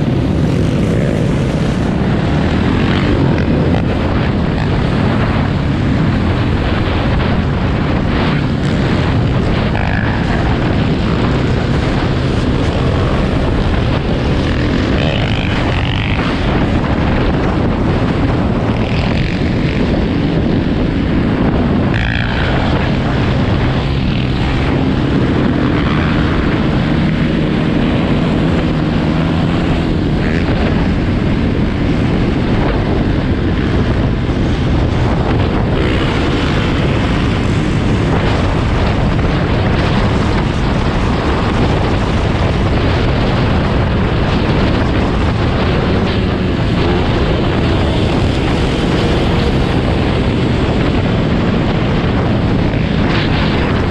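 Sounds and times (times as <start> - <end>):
dirt bike engine running: 0.0 - 53.9
wind noise on microphone: 0.0 - 53.9.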